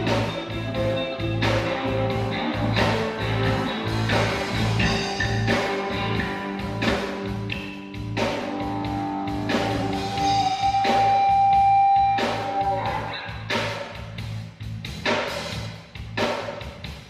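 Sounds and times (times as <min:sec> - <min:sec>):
instrumental reggae band music: 0:00.0 - 0:17.0.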